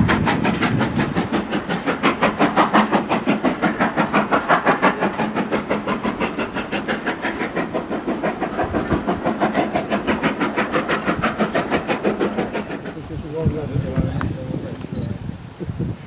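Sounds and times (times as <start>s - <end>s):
steam locomotive exhaust beats: 0.0s - 16.0s.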